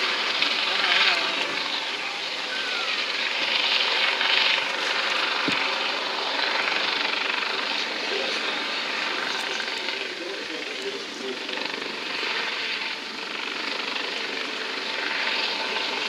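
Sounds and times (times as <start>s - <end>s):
helicopter hovering: 0.0s - 16.0s.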